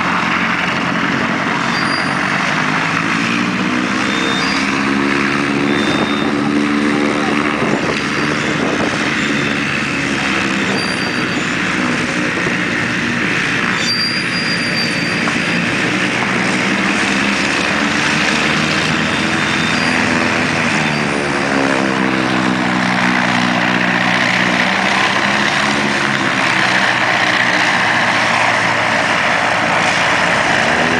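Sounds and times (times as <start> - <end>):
propeller plane engine running: 0.0 - 30.9.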